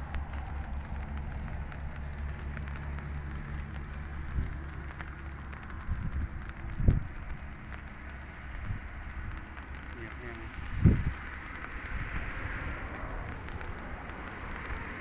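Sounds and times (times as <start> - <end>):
light rain drops ticking: 0.0 - 15.0
steady low rumble: 0.0 - 15.0.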